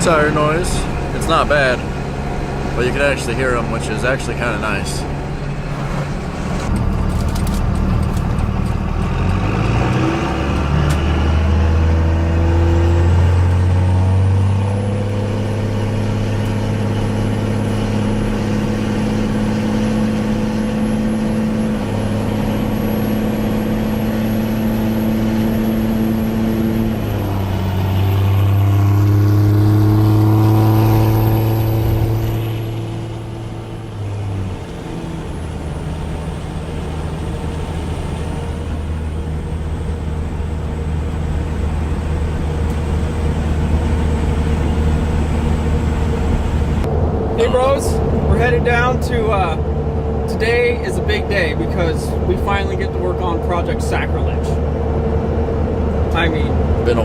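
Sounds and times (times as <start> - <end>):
vehicle engine driving: 0.0 - 57.0.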